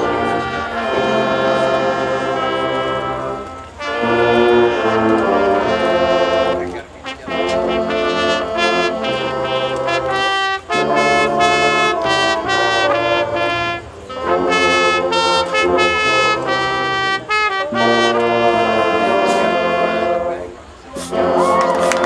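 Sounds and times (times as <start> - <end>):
brass band playing sustained chords: 0.0 - 22.0.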